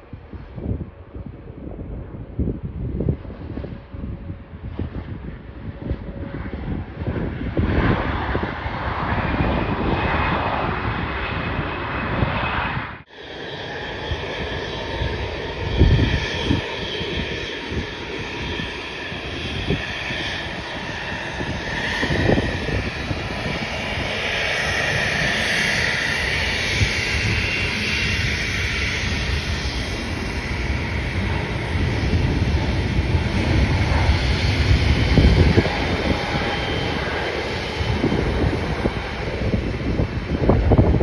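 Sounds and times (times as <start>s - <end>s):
jet engines running: 0.0s - 41.0s
wind buffeting microphone: 0.0s - 41.0s.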